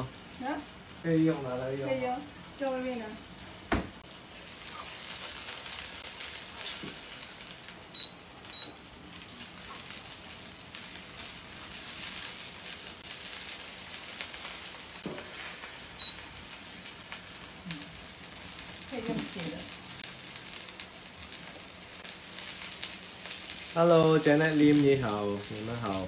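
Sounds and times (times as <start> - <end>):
food sizzling in a wok: 0.0 - 26.0.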